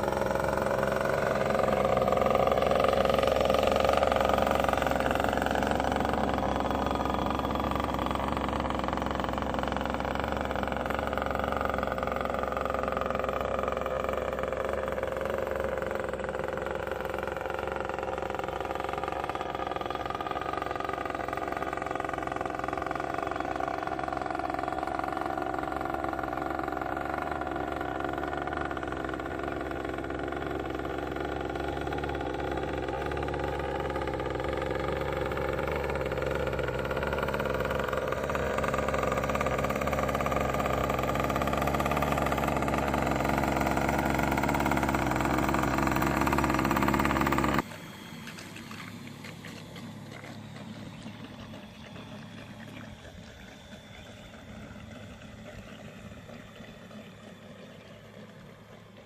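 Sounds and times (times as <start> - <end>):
small two-stroke engine running: 0.0 - 59.0.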